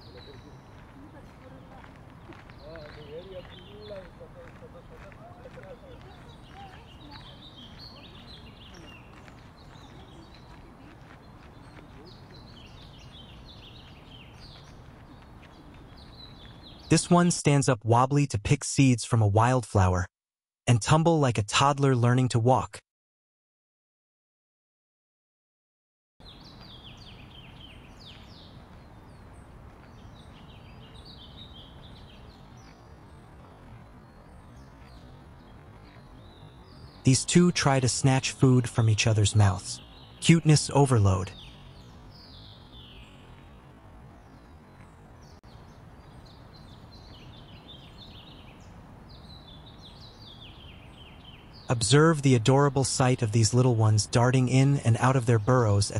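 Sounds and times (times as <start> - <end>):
small birds chirping: 0.0 - 17.6, 26.2 - 55.9.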